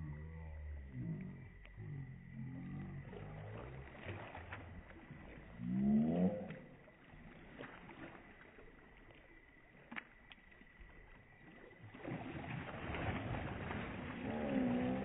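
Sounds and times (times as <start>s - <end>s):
water sloshing from swimmers: 0.8s - 15.0s.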